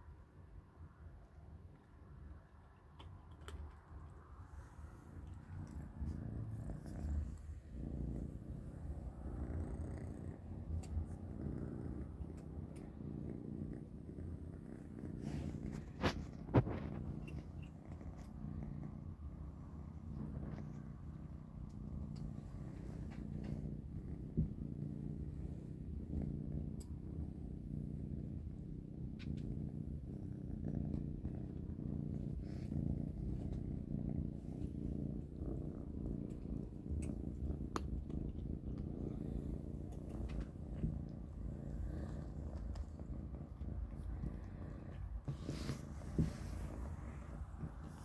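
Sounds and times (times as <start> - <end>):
kitten purring: 0.0 - 48.0.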